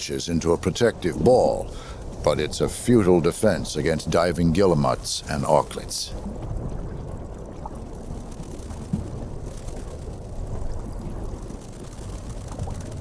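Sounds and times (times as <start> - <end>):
rumbling water: 0.0 - 13.0.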